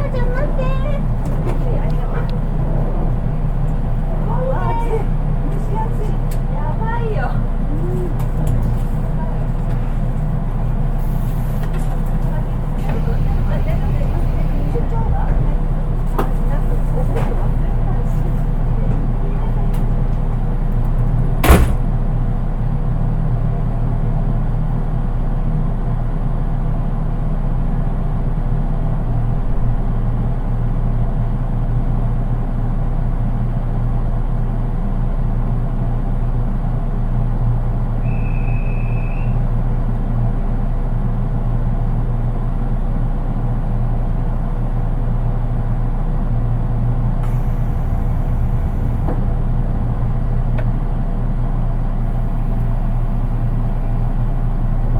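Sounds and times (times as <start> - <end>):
train interior rumble and hum: 0.0 - 54.9.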